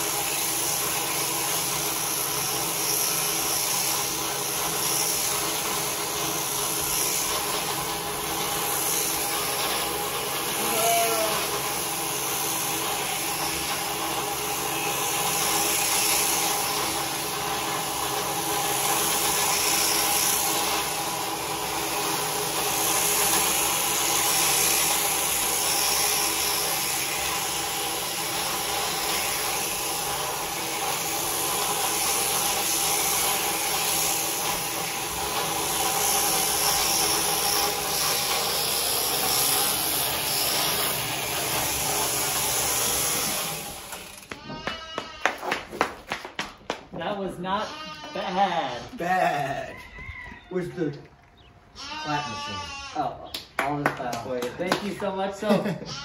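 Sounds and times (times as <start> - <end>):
cutters hissing through fleece: 0.0 - 45.1
electric sheep shears running: 0.0 - 51.0, 51.9 - 52.9.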